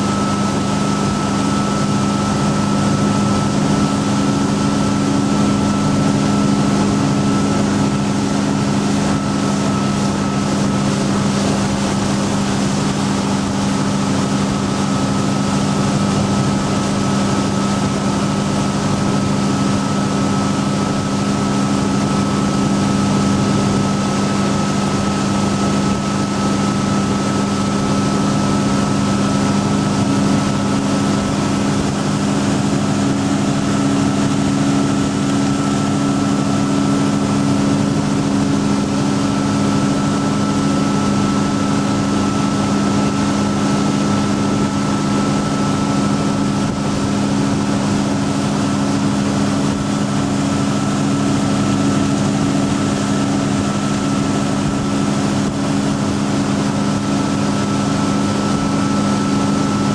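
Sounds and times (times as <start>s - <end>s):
boat engine drone: 0.0s - 59.9s
rush of boat wake: 0.0s - 59.9s.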